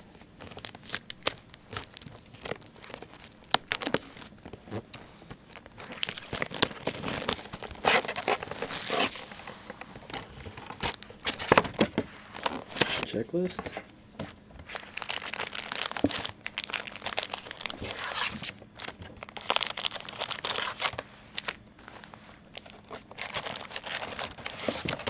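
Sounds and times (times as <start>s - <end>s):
plastic shrink-wrap tearing and crinkling: 0.0s - 13.8s, 14.6s - 25.0s.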